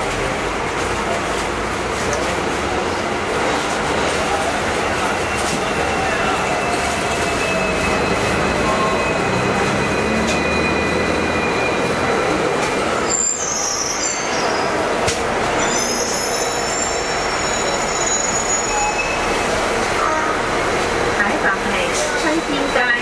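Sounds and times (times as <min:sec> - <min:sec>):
tram running noise: 0:00.0 - 0:23.0
steel wheels squealing on rails: 0:01.0 - 0:23.0.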